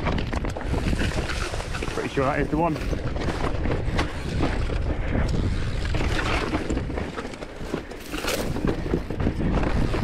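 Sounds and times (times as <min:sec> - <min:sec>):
bike tyres and frame rattling: 0:00.0 - 0:10.0
wind buffeting microphone: 0:00.0 - 0:10.0.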